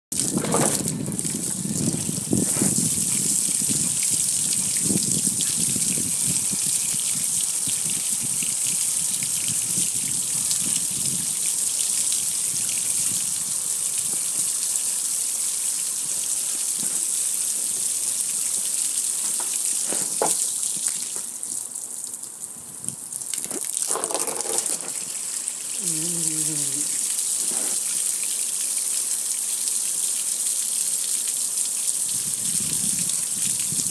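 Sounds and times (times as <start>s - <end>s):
hose water spraying on grill: 0.2s - 21.3s, 23.4s - 31.3s.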